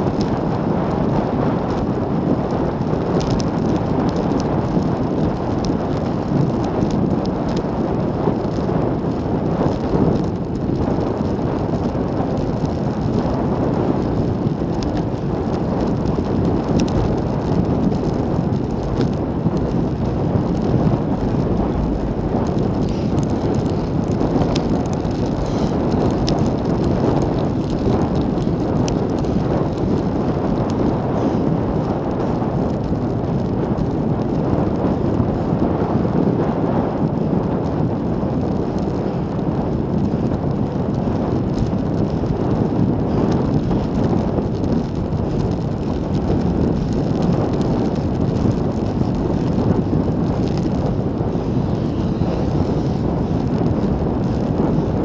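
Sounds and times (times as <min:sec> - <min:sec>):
tyre noise on asphalt: 0:00.0 - 0:55.0
wind rush on microphone: 0:00.0 - 0:55.0.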